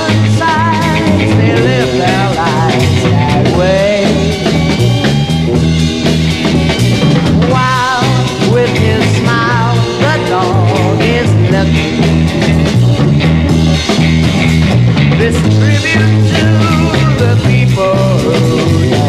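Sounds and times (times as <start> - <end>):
beat-pop band playing: 0.0 - 19.0.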